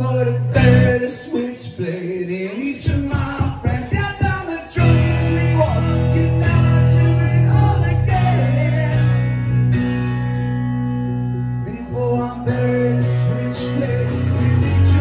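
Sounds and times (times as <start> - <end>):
bass guitar: 0.0 - 1.3, 2.8 - 15.0.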